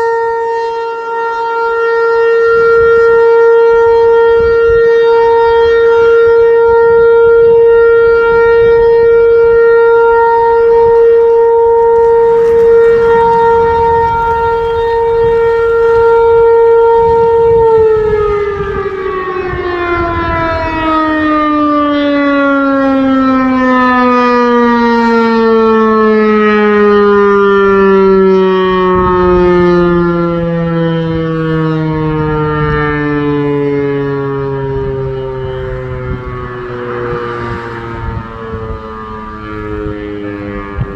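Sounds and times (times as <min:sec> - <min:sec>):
tornado warning siren: 0:00.0 - 0:40.9.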